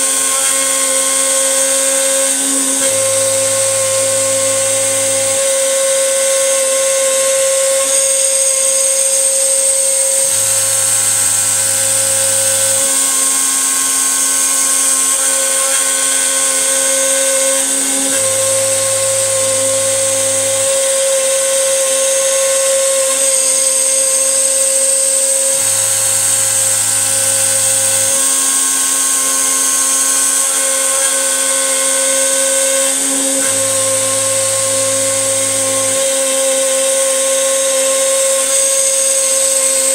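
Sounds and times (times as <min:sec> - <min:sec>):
lower motor tones: 0:00.0 - 0:39.9
router spindle whining: 0:00.0 - 0:39.9.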